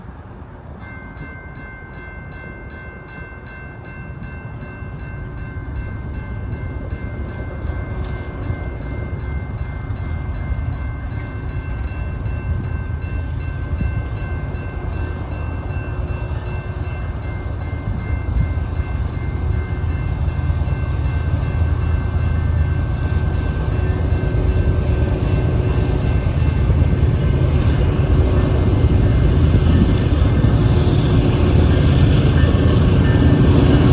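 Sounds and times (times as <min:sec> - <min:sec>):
train low rumble: 0:00.0 - 0:33.9.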